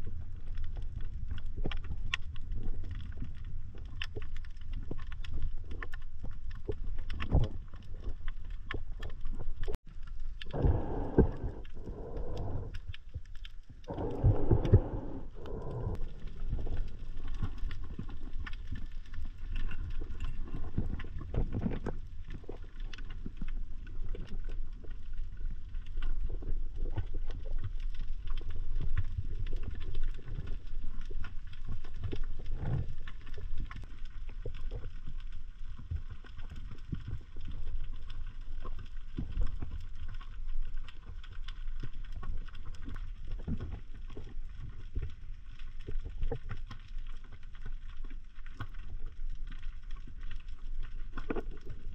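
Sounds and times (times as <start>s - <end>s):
faint clicks and crackles: 0.0s - 51.9s
muffled underwater rumble: 0.0s - 51.9s.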